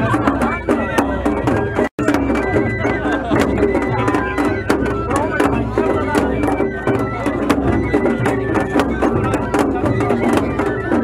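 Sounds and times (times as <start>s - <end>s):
high flute melody: 0.0s - 11.0s
large drum beaten with sticks: 0.0s - 11.0s.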